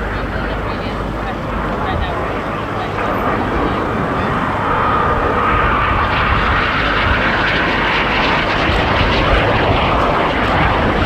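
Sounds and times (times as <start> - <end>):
faint jet engine whine: 0.0 - 11.0
jet engine roar: 0.0 - 11.0.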